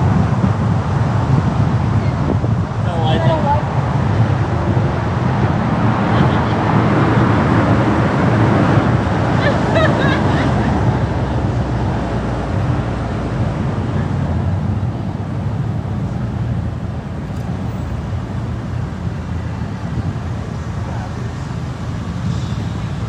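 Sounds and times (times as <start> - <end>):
car tyres and engine rumble: 0.0 - 23.0.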